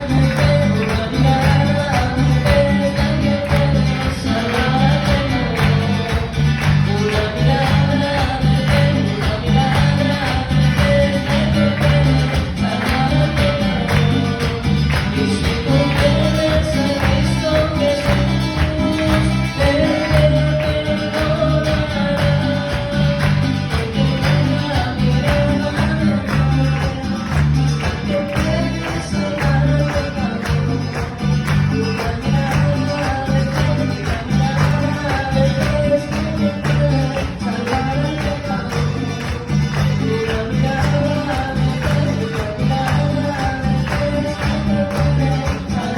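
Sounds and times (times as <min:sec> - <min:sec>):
band playing upbeat worship song: 0:00.0 - 0:45.9.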